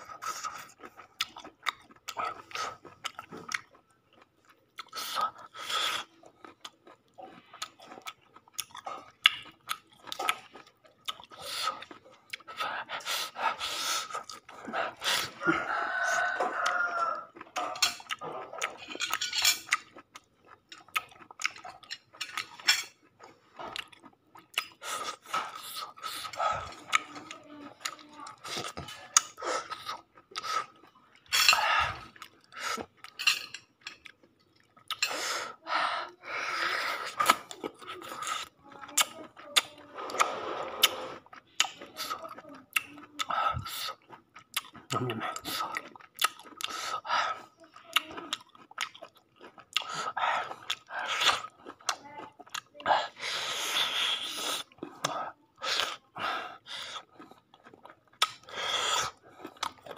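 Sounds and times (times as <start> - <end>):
person chewing: 0.0 - 59.9.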